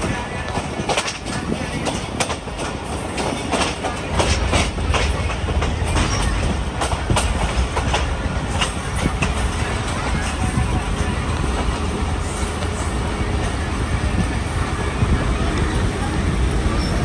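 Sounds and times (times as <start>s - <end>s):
low train rumble: 0.0s - 17.0s
train clicks and clanks: 0.0s - 17.0s.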